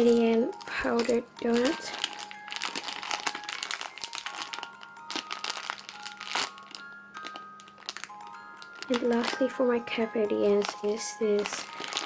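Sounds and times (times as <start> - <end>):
plastic bag crinkling: 0.0 - 12.0
soft background music: 0.0 - 12.0.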